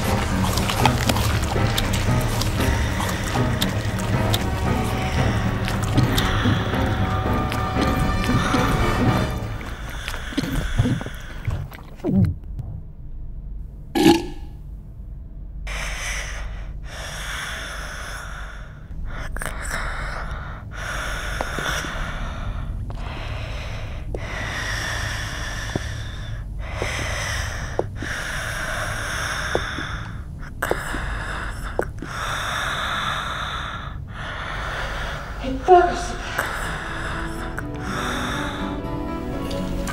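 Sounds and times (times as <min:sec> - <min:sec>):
heavy breathing: 0:00.0 - 0:12.0, 0:15.7 - 0:39.9
low steady hum: 0:00.0 - 0:39.9.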